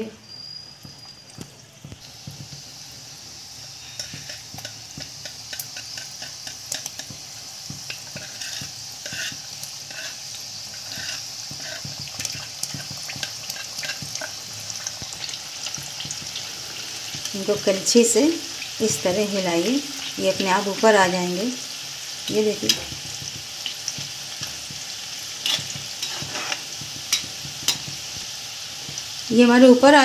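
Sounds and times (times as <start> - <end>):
dough deep-frying in oil: 0.0 - 30.0.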